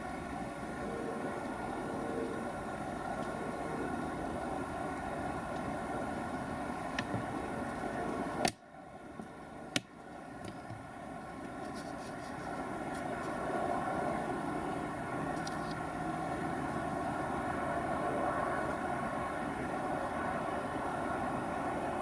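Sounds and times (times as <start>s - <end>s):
outdoor drone with faint tones: 0.0s - 22.0s.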